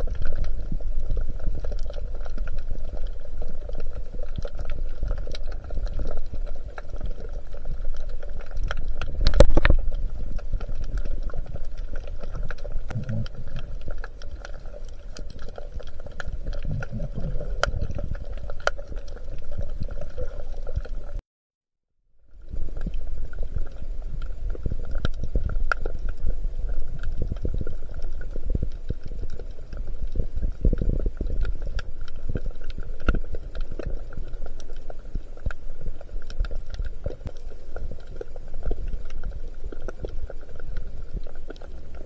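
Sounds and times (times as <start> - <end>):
crackling clicks: 0.0 - 21.2, 22.4 - 42.0
muffled rumble of sea water: 0.0 - 21.2, 22.1 - 42.0.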